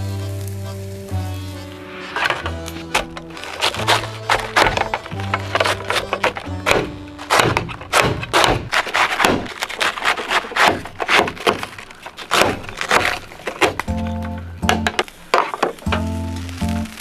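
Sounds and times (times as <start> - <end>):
hatchet chopping cabbage on metal: 2.4 - 16.1.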